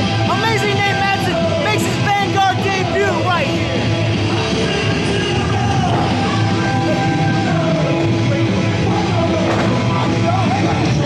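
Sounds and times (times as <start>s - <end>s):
rock music with singing: 0.0s - 11.0s.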